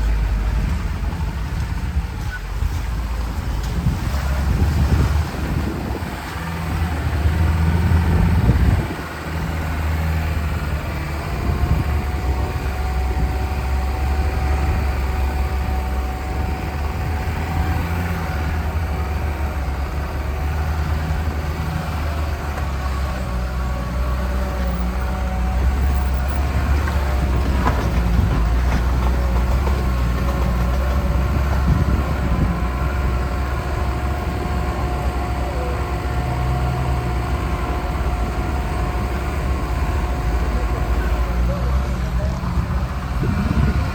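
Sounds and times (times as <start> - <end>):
car engine drone: 0.0 - 43.9.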